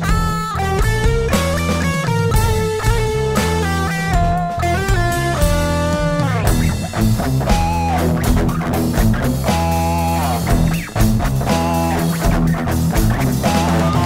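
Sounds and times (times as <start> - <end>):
bass guitar: 0.0 - 14.0
drum kit: 0.0 - 14.0
electric guitar lead notes: 0.0 - 14.0.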